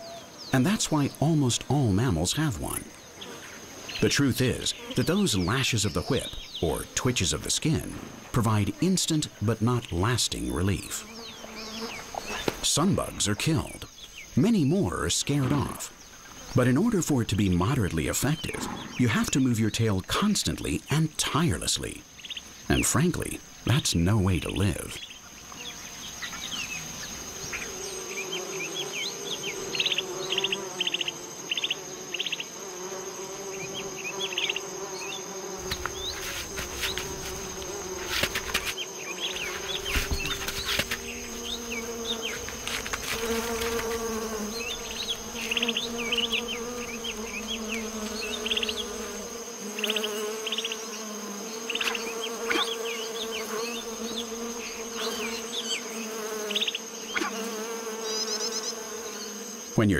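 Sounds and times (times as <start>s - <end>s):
flies buzzing: 0.0s - 59.9s.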